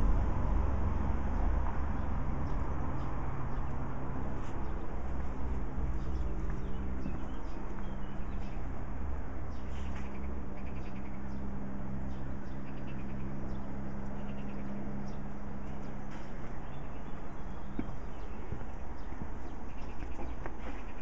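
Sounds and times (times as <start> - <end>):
steady low hum: 0.0 - 21.0
small birds chirping: 1.6 - 21.0.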